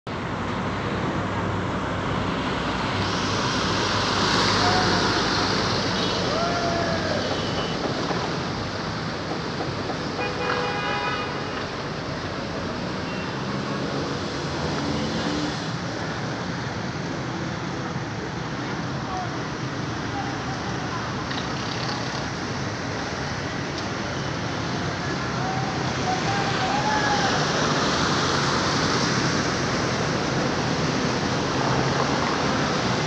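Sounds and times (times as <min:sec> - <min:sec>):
tyres moving through floodwater: 0:00.1 - 0:33.0.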